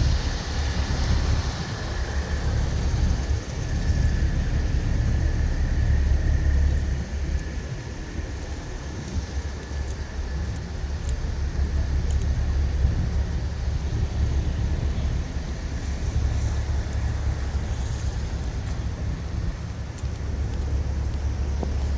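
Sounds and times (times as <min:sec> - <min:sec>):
truck engines rumbling: 0:00.0 - 0:21.9.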